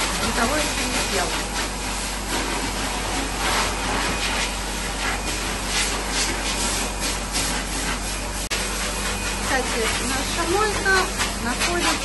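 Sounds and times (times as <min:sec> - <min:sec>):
grooming dryer blowing hiss: 0:00.0 - 0:12.0.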